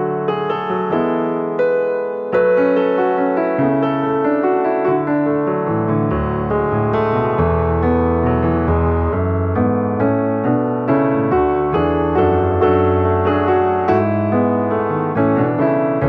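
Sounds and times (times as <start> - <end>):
piano keyboard music: 0.0 - 16.0.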